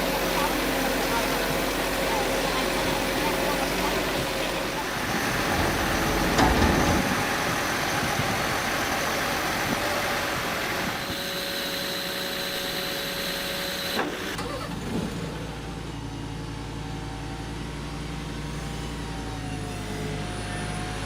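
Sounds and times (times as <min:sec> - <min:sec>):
heavy machinery engines running: 0:00.0 - 0:21.0.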